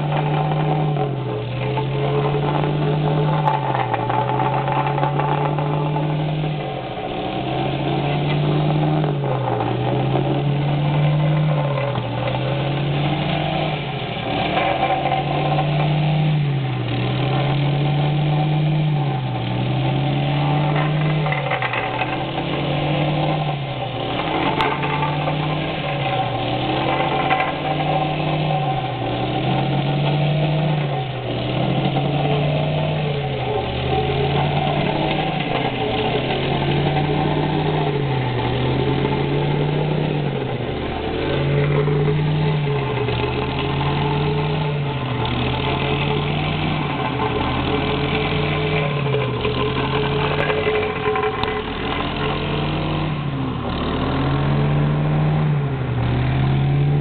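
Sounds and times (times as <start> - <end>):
plate compactor engine droning: 0.0 - 57.0.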